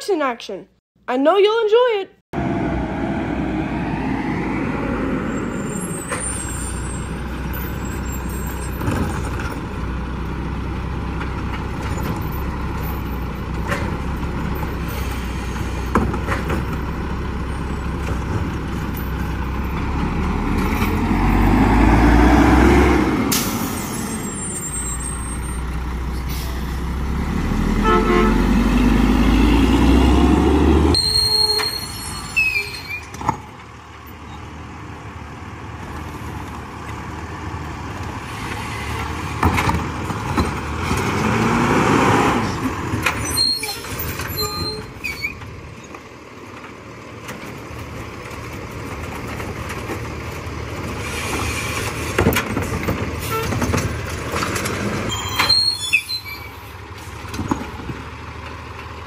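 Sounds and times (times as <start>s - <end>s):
garbage truck diesel engines: 2.4s - 59.0s.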